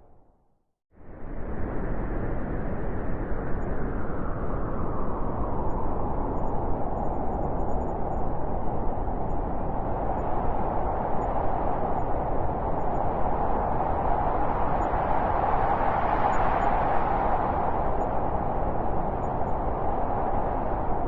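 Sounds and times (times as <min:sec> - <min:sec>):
blizzard wind howling: 0:01.0 - 0:21.0.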